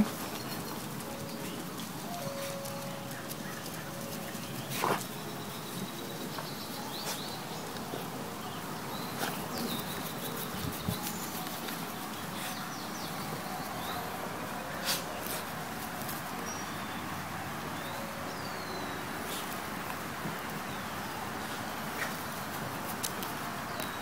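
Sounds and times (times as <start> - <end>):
birds chirping: 0.0 - 24.0
outdoor hiss: 0.0 - 24.0.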